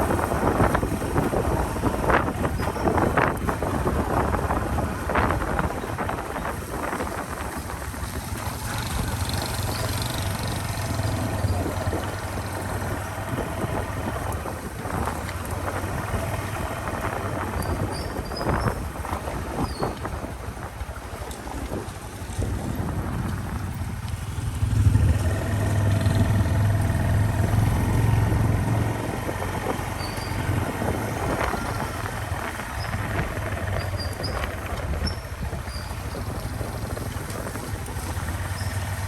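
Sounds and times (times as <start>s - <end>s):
motor engine running: 0.0s - 19.7s, 20.8s - 39.0s
wind noise on microphone: 0.0s - 39.0s.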